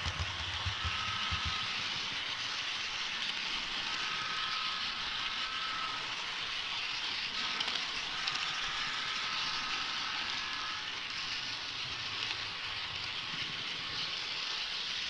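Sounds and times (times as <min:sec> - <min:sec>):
model train wheels hissing on rail: 0:00.0 - 0:15.0.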